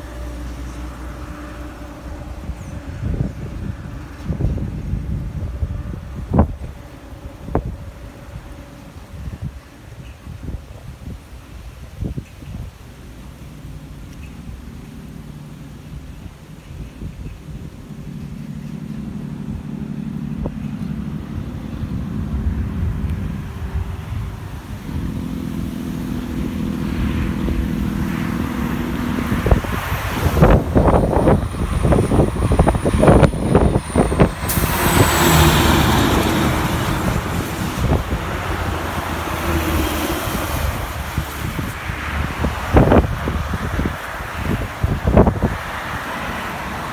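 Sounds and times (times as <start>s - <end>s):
vehicle passing with tyre noise: 0.0s - 12.2s, 12.8s - 46.9s
car and truck engines: 0.0s - 46.9s
wind buffeting microphone: 0.0s - 46.9s.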